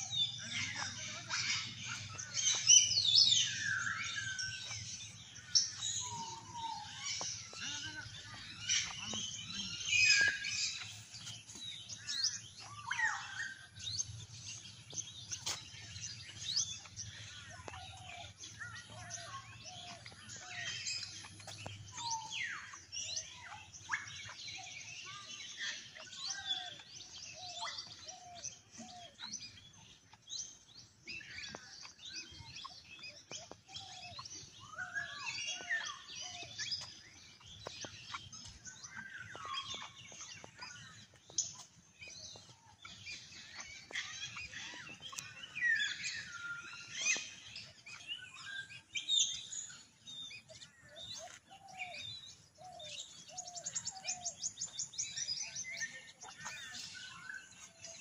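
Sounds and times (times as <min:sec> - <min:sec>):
birds singing and chirping: 0:00.0 - 0:58.0.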